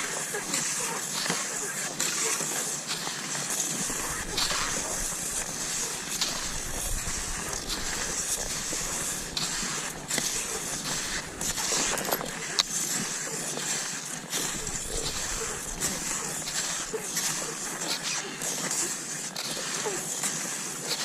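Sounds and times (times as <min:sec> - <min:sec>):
sharp ski scrapes: 0:00.0 - 0:21.0
skis sliding over snow: 0:00.0 - 0:21.0.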